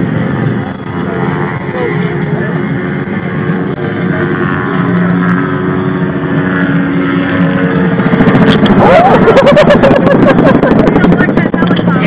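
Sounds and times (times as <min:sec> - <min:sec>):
din of engines: 0:00.0 - 0:12.0.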